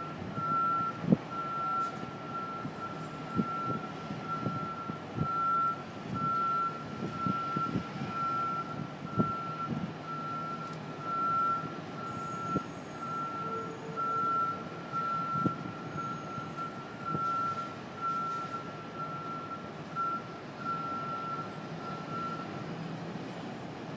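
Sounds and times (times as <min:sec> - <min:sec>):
distant warning beeper: 0:00.0 - 0:22.6.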